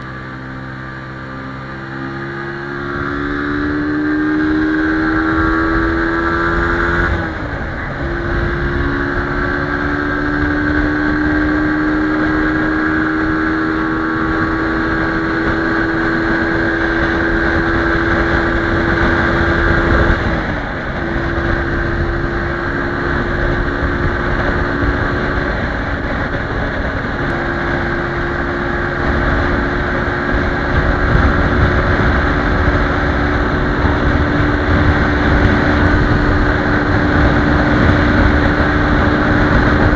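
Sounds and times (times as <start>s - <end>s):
motorcycle engine at speed: 0.0s - 39.9s
wind rush on microphone: 0.0s - 39.9s.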